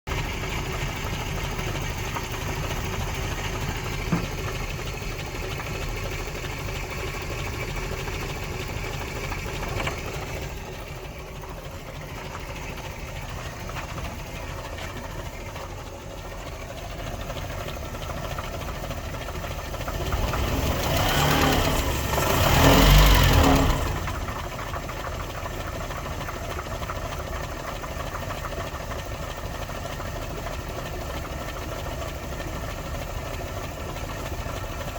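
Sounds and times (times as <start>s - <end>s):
engine idling unevenly: 0.1s - 34.9s.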